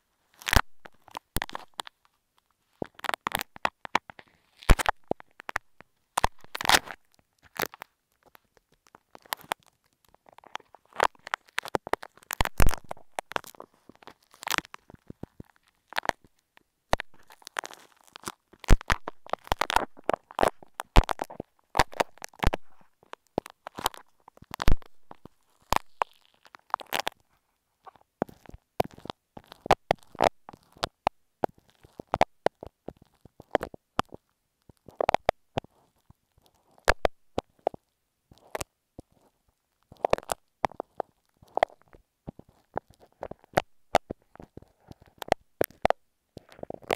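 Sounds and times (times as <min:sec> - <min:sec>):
glue paste worked on microphone: 0:00.2 - 0:46.9
clicks and crackles on microphone: 0:00.3 - 0:46.9.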